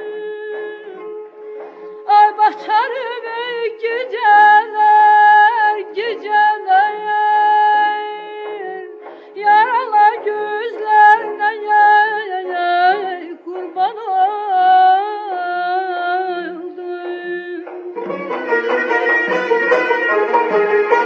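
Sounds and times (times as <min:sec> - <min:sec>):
woman singing folk song: 0:00.0 - 0:01.2, 0:02.0 - 0:17.9
instrumental accompaniment: 0:00.0 - 0:21.0.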